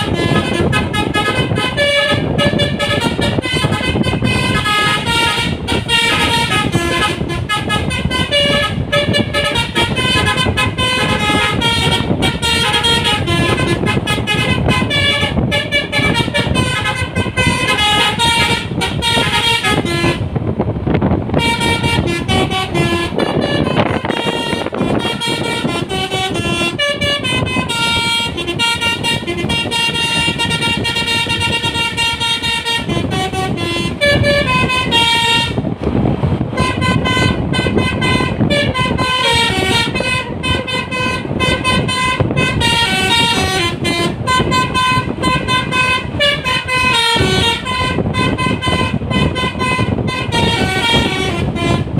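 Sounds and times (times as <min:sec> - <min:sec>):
bus and traffic noise: 0:00.0 - 0:51.9
bus horn playing a melody: 0:00.0 - 0:51.9.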